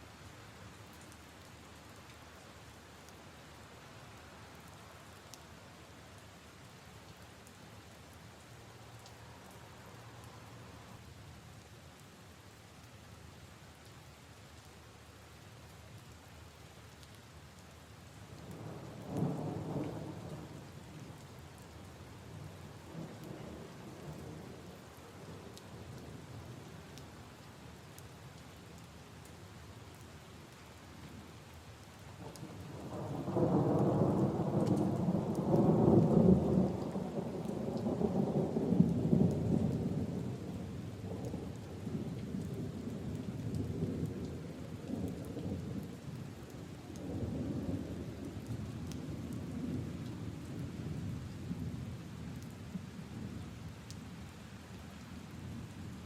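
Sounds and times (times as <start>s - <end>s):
rain on leaves and puddles: 0.0s - 56.0s.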